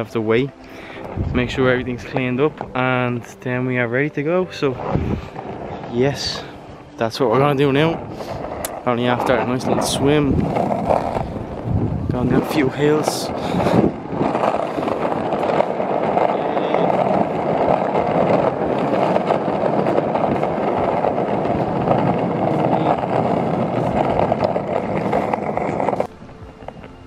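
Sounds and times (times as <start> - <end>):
skateboard wheels rumbling on asphalt: 0.0 - 27.0.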